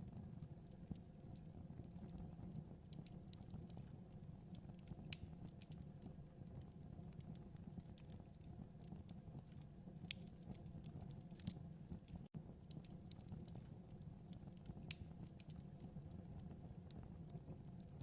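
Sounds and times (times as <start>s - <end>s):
fire crackling: 0.0s - 18.0s
fire low rumble: 0.0s - 18.0s
fire popping: 0.1s - 18.0s.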